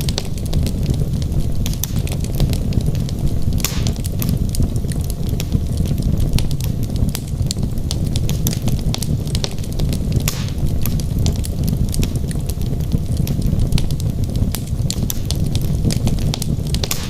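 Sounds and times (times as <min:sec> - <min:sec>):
fire hiss: 0:00.0 - 0:17.0
flame rumble: 0:00.0 - 0:17.0
logs crackling and popping: 0:00.0 - 0:17.0.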